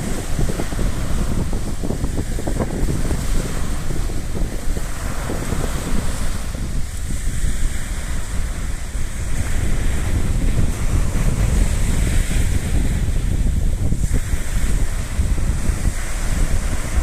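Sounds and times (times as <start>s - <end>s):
sea surf hiss: 0.0s - 17.0s
wind buffeting microphone: 0.0s - 17.0s.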